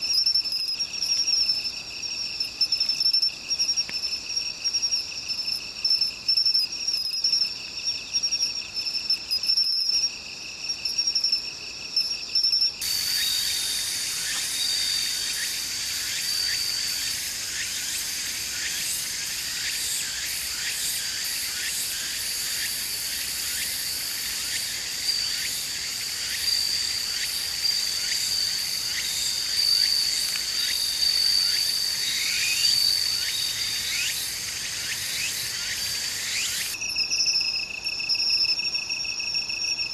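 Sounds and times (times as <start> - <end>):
crickets trilling: 0.0 - 39.9
insect chorus: 0.0 - 39.9.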